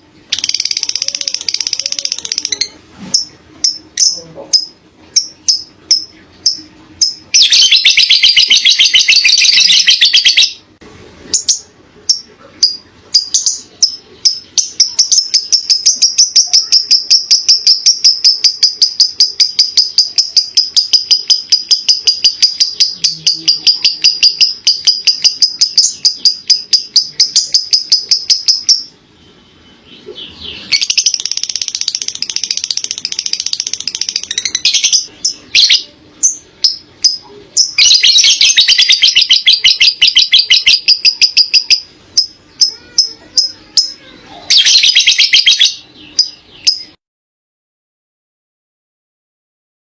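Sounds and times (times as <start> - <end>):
bird chirps: 0.3 - 10.6, 11.3 - 47.0
lovebird chattering song: 0.3 - 10.6, 11.3 - 47.0.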